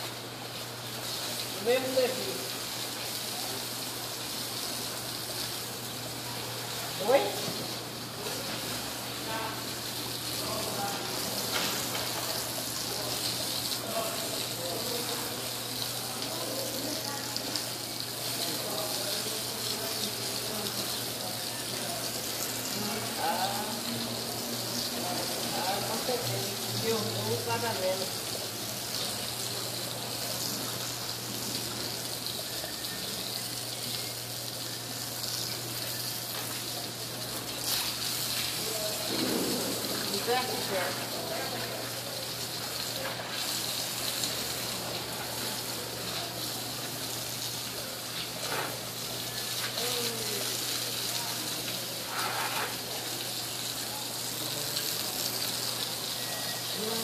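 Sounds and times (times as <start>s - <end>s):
water hose hissing on tiles: 0.0s - 57.0s.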